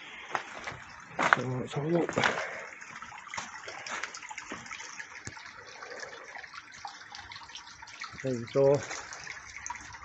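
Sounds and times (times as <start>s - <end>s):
running water splashing: 0.0s - 10.0s.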